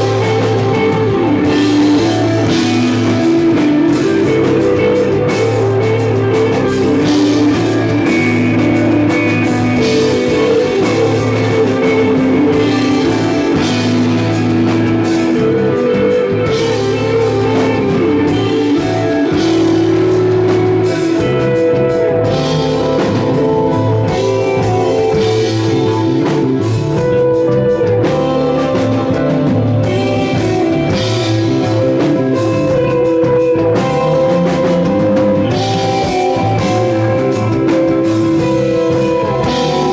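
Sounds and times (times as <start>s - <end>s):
drum kit with cymbals: 0.0s - 39.9s
electric guitar: 0.0s - 39.9s
live rock band playing: 0.0s - 39.9s.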